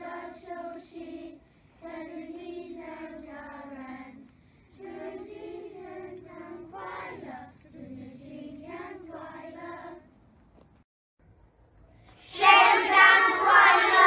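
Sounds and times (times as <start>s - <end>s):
children's choir singing: 0.0s - 10.1s, 12.2s - 14.0s.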